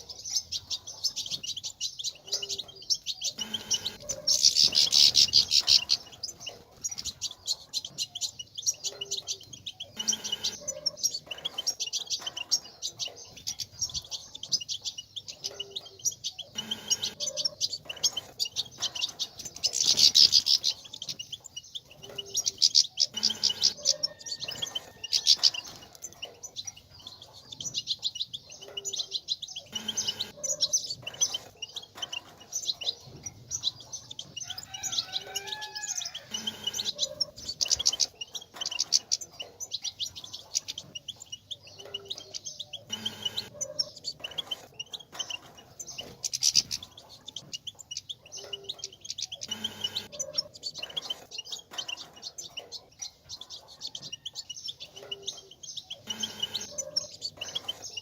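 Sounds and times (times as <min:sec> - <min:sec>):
finch twittering: 0:00.0 - 0:58.0.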